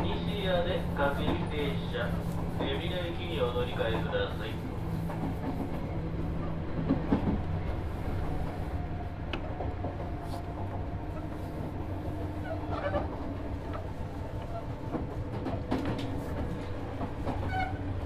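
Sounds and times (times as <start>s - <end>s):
wheel and rail rolling noise: 0.0s - 18.0s.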